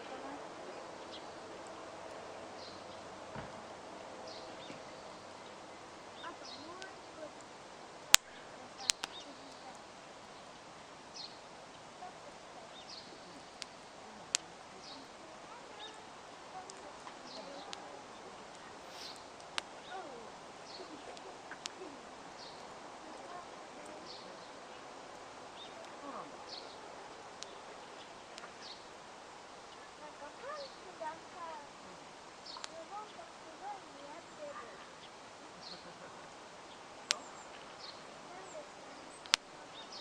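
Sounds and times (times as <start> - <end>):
bird chirping: 0.0 - 40.0
campfire crackling: 0.0 - 40.0.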